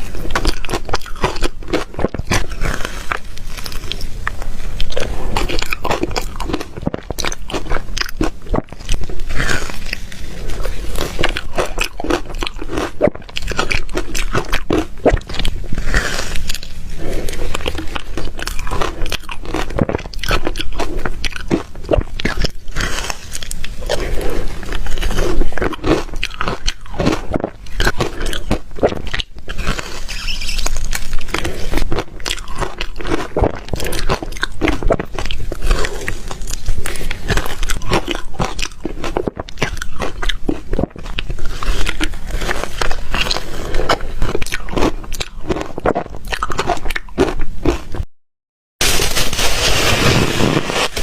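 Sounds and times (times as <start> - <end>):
ice crunched between teeth: 0.0 - 48.0, 48.8 - 51.0.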